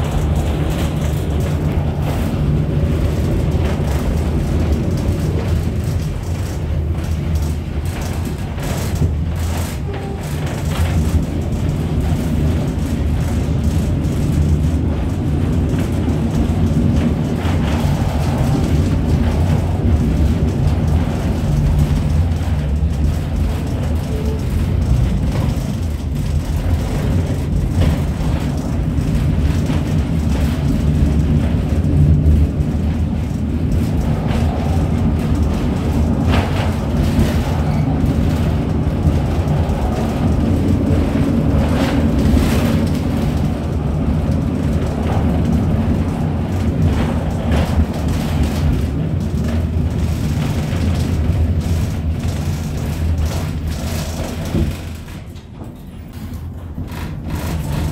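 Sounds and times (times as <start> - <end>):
tram wheels rumbling on rails: 0.0 - 57.9.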